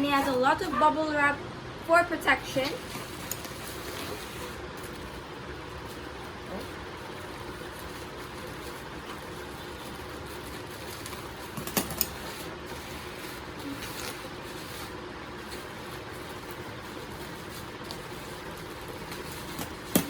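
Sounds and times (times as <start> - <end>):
bubble wrap crackles: 2.4 - 20.0.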